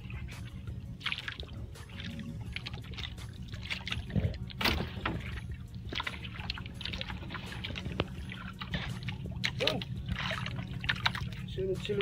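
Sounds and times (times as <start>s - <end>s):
steady low rumble: 0.0s - 12.0s
water lapping against boat hull: 0.0s - 12.0s.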